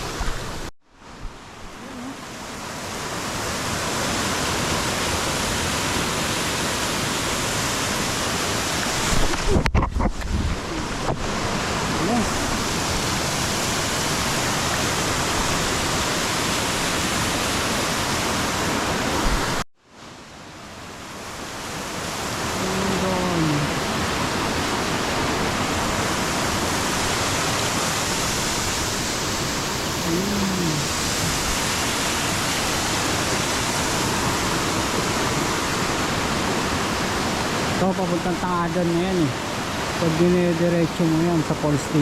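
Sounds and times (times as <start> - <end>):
flowing water rushing: 0.0 - 42.0.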